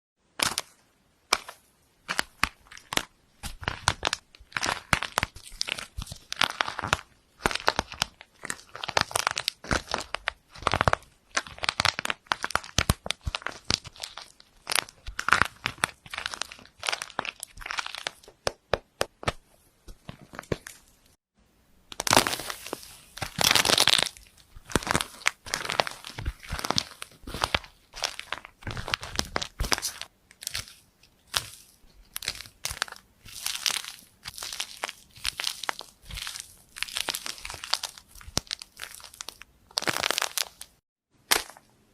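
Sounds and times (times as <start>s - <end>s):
slime crackling and popping: 1.3s - 18.6s, 21.9s - 41.6s.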